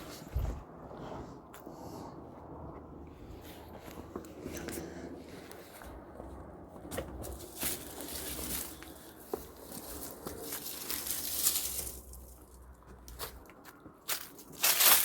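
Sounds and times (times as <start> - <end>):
footsteps on rough ground: 0.0 - 0.6, 2.8 - 15.0.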